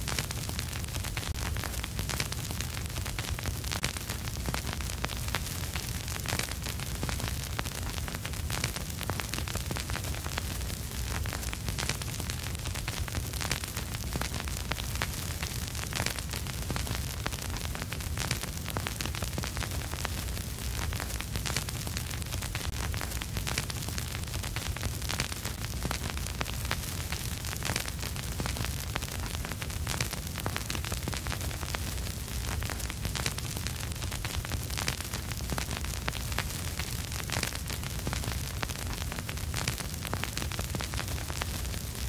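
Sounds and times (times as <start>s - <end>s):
vinyl crackles and pops: 0.0s - 42.0s
vinyl record hiss: 0.0s - 42.0s.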